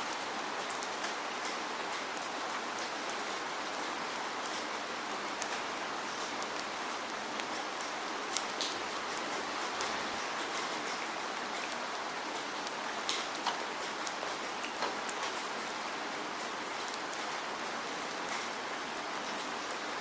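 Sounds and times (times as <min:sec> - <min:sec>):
raindrops ticking on a surface: 0:00.0 - 0:20.0.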